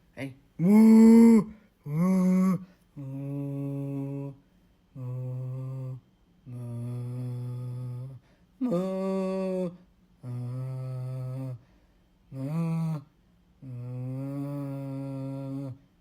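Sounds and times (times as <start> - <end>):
person snoring with hums: 0.6 - 4.4, 5.0 - 11.6, 12.3 - 15.8.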